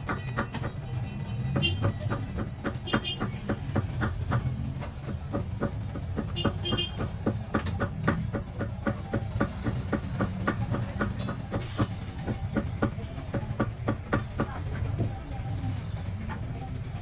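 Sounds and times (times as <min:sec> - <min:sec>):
small hammer tapping metal: 0:00.0 - 0:14.6.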